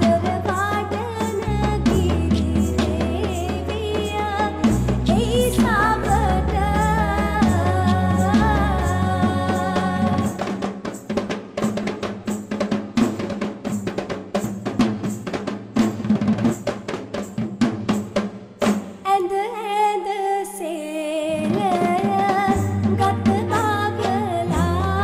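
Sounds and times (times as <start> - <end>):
rapid drumming: 0.0 - 19.0, 21.3 - 25.0.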